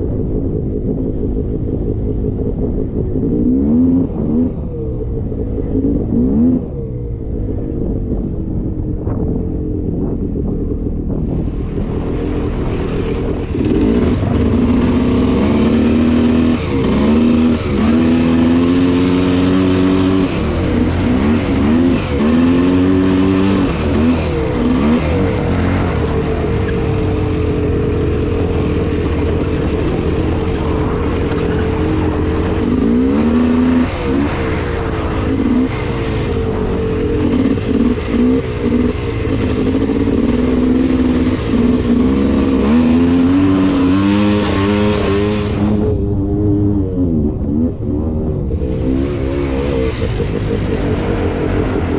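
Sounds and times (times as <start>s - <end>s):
atv engine revving: 0.0s - 51.9s.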